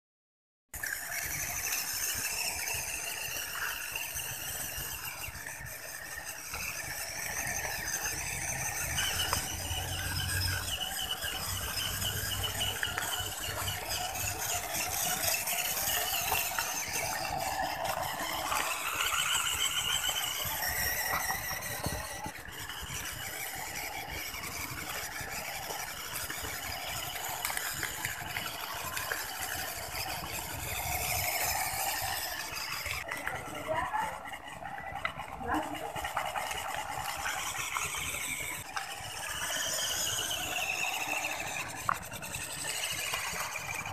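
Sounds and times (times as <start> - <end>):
small tyres hissing on pavement: 0.8 - 43.9
toy car electric motor whining: 0.8 - 43.9.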